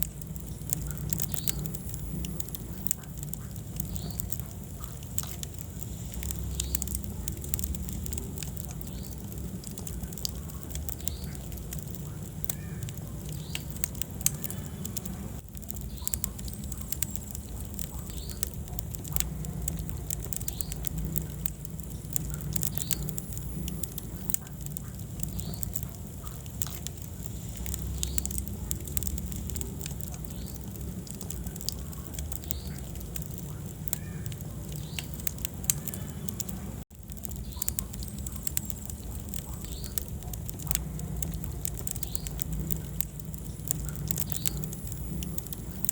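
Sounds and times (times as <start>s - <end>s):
low rumble of flames: 0.0s - 45.9s
wood fire crackling and popping: 0.0s - 45.9s.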